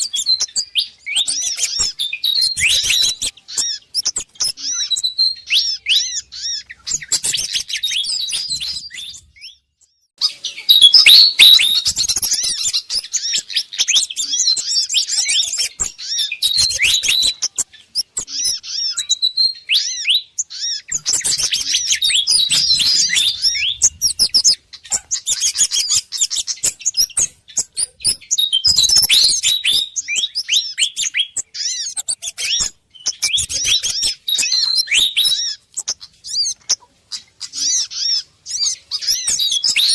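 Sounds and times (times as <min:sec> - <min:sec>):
bird chattering calls: 0:00.0 - 0:09.6, 0:10.2 - 0:39.9.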